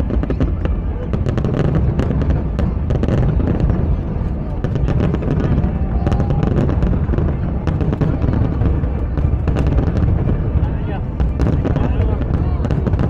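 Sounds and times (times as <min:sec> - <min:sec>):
fireworks cracks and pops: 0:00.0 - 0:13.0
low rumble: 0:00.0 - 0:13.0.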